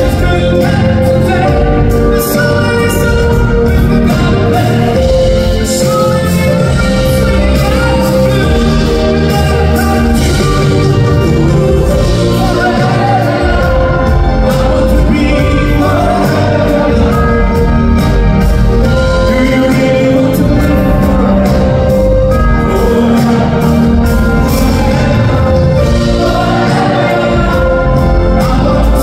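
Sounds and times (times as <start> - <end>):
man singing into a microphone: 0.0 - 29.0
pop band with orchestral strings: 0.0 - 29.0.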